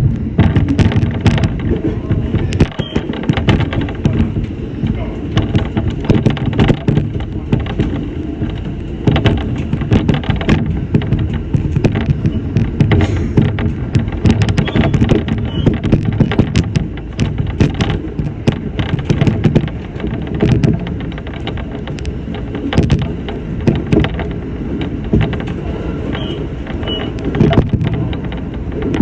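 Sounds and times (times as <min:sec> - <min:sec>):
train rumbling inside car: 0:00.0 - 0:29.0
wheels clacking over track: 0:00.0 - 0:29.0.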